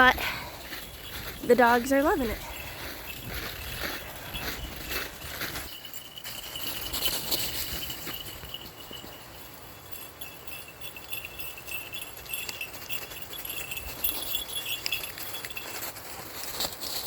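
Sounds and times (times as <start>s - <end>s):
dog collar tags jingling: 0.0s - 17.0s.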